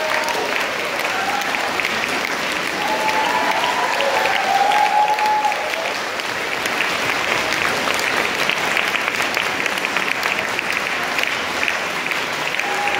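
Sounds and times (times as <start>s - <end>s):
crowd applauding: 0.0s - 12.9s.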